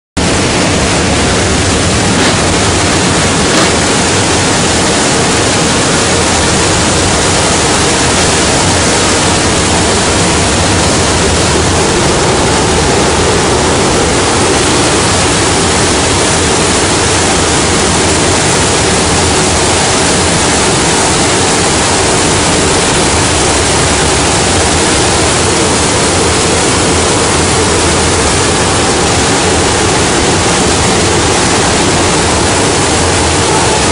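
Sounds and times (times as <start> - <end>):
aircraft cabin engine and air roar: 0.2 - 33.9.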